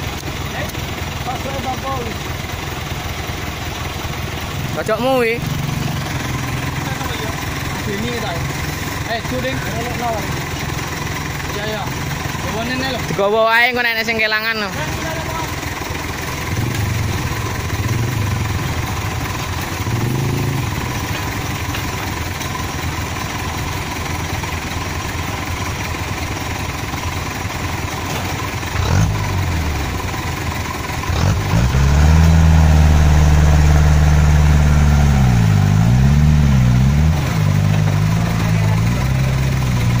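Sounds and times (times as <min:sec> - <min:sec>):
truck diesel engine revving: 0:00.0 - 0:40.0.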